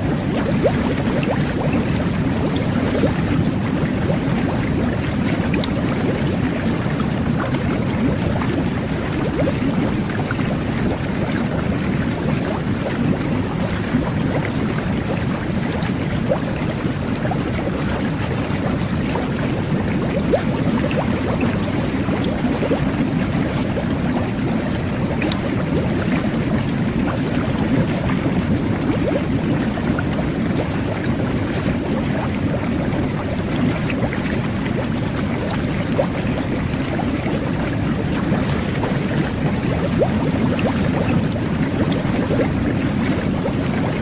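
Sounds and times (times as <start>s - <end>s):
whirlpool tub water bubbling: 0.0s - 44.0s.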